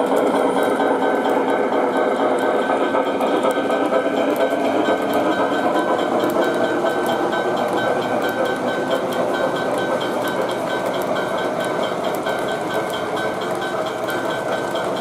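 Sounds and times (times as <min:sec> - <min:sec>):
model train cars rolling: 0:00.0 - 0:15.0.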